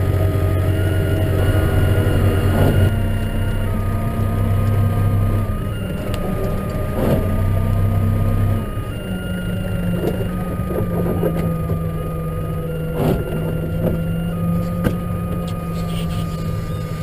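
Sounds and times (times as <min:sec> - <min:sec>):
steady high whine: 0:00.0 - 0:17.0
tractor engine running: 0:00.0 - 0:17.0.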